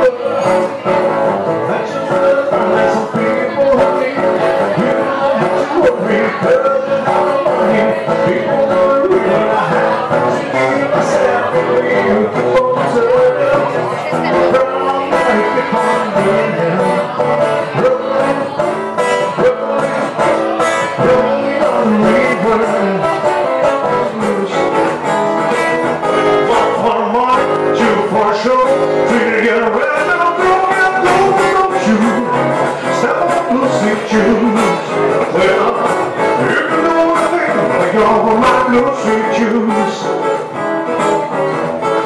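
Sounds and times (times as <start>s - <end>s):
acoustic guitar playing: 0.0s - 42.0s
man singing into a microphone: 0.0s - 42.0s.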